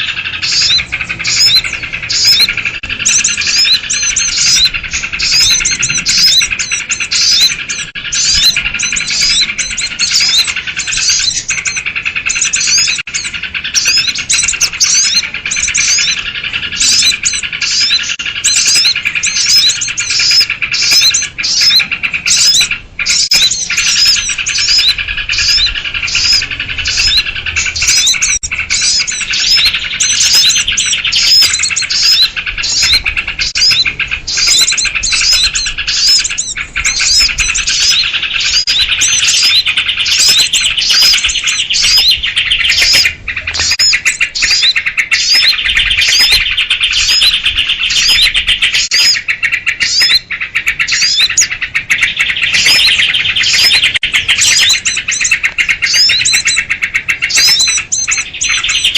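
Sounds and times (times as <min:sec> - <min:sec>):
small birds chattering and chirping: 0:00.0 - 0:58.9.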